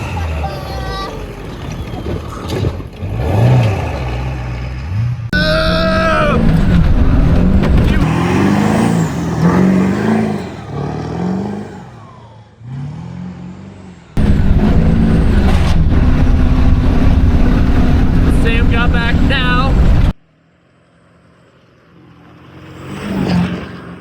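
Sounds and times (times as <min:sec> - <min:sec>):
pickup truck engine revving: 0:00.0 - 0:20.2.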